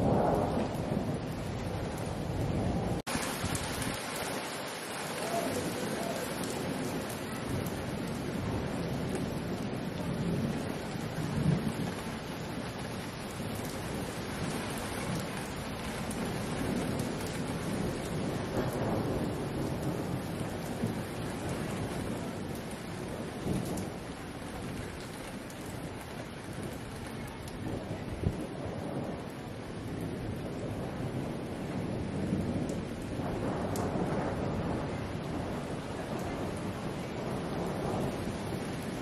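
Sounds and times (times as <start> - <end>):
heavy rain pouring: 0.0 - 39.0
low thunder rumbles: 0.0 - 39.0.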